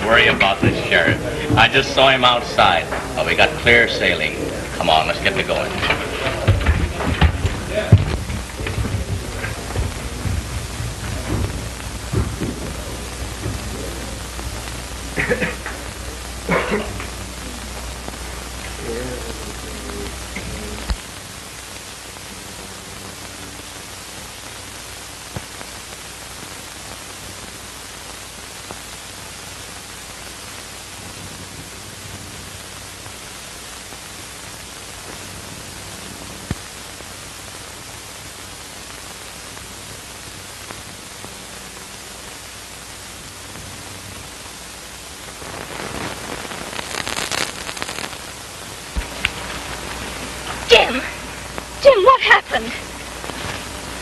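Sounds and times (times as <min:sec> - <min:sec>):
film soundtrack hiss: 0:00.0 - 0:54.0
rough burst of noise: 0:00.0 - 0:54.0.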